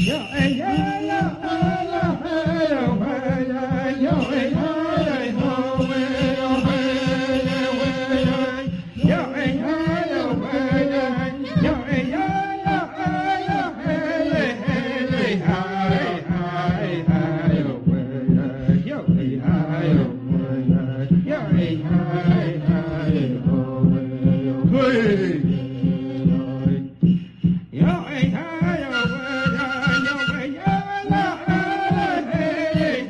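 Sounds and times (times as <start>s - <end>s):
person singing over a beat: 0.0s - 33.0s.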